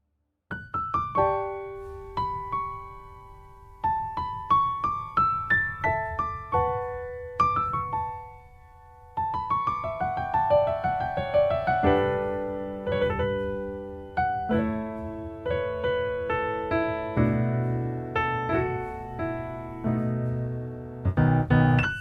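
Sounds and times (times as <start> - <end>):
piano playing gentle melody: 0.5 - 22.0.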